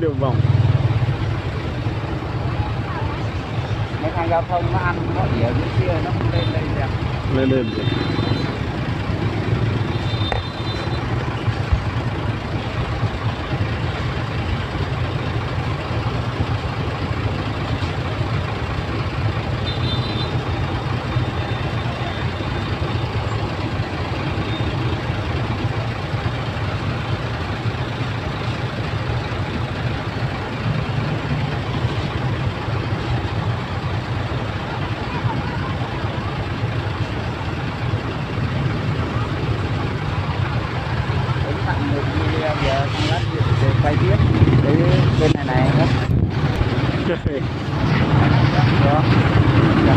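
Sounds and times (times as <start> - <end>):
diesel truck engine: 0.0 - 49.9
idling engines rumbling: 0.0 - 49.9
motorbikes: 0.0 - 49.9.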